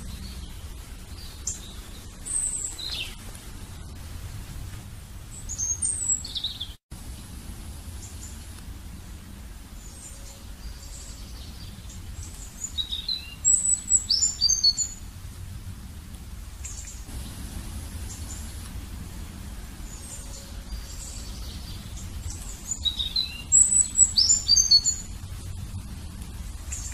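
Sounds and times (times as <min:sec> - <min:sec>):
low background rumble: 0:00.0 - 0:26.9
small birds chirping: 0:00.0 - 0:26.9.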